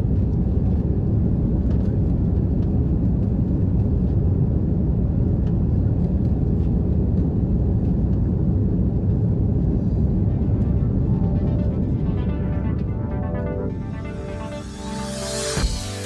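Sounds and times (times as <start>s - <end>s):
airplane cabin rumble: 0.0s - 15.8s.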